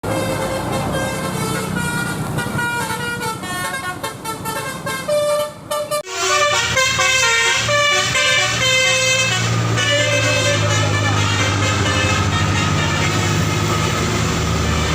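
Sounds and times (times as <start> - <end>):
multi-tone car horn tune: 0.0 - 14.9.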